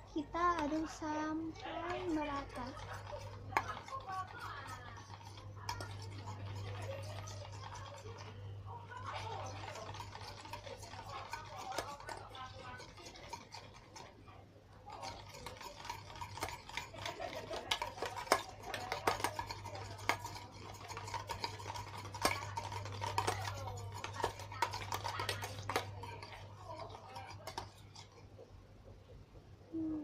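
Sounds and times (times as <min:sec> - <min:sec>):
utensil scraping container: 0:00.4 - 0:14.2, 0:14.9 - 0:28.5.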